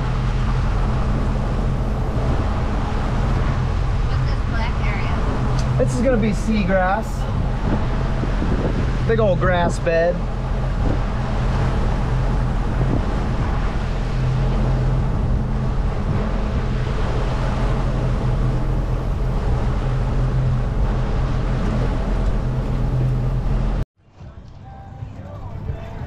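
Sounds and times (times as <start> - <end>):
boat motor humming: 0.0 - 23.8
wind and water noise: 0.0 - 26.0.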